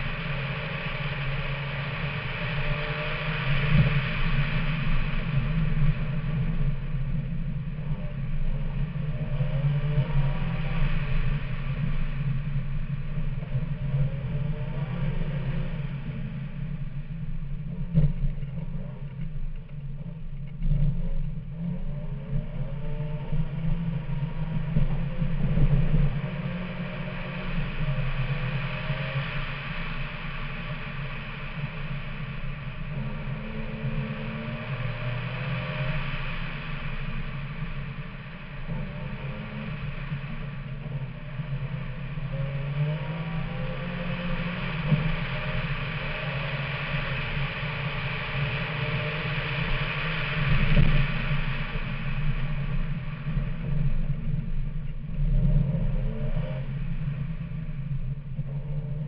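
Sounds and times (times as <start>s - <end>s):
car engine revving: 0.0s - 17.0s, 20.6s - 54.4s
tyre and road noise: 0.0s - 59.0s.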